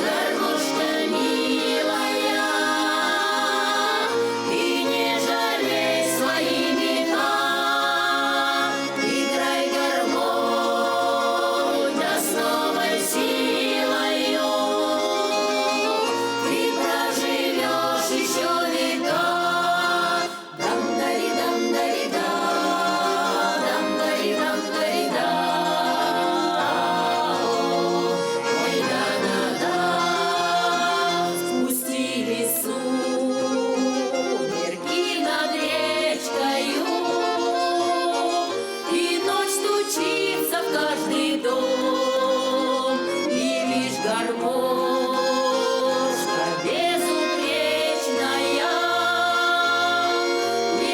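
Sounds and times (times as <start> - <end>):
accordion playing folk song: 0.0 - 50.9
voices singing: 0.0 - 50.9.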